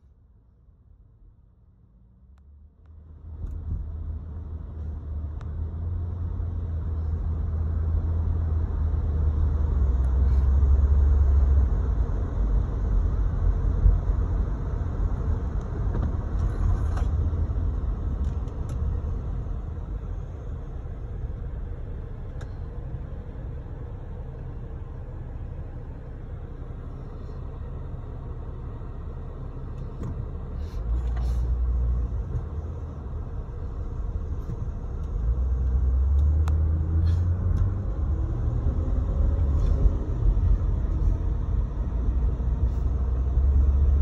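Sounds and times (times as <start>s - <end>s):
car engine rumble: 0.0s - 44.0s
road noise: 0.0s - 44.0s.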